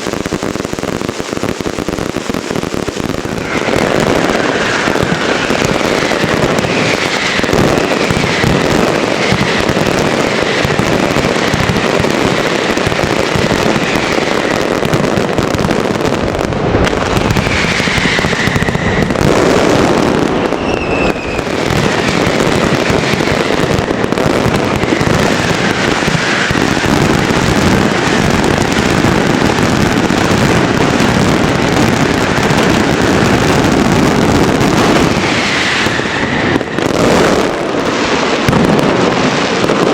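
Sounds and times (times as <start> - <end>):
falling firework whistles: 0.0 - 39.9
fireworks bangs and crackling: 0.0 - 39.9.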